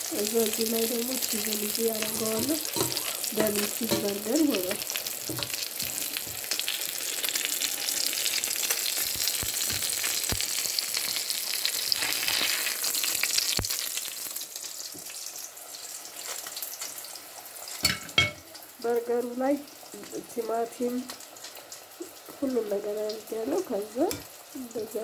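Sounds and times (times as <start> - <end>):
patties sizzling in frying pan: 0.0 - 25.0.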